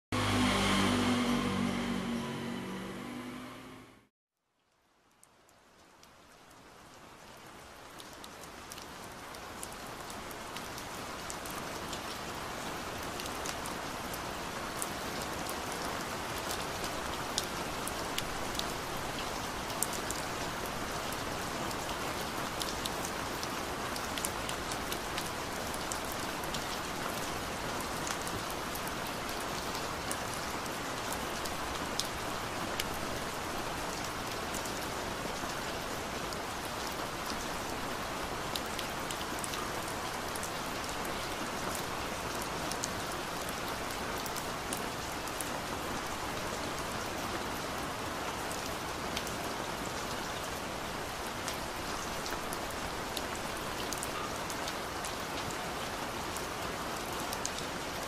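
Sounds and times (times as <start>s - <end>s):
rain-like patter: 4.4s - 58.0s.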